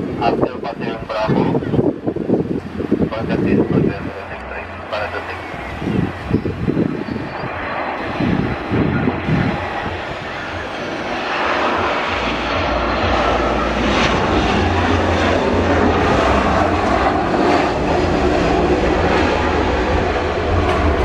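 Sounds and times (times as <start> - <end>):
jet airliner landing: 0.0 - 21.0
low rumble: 0.8 - 21.0.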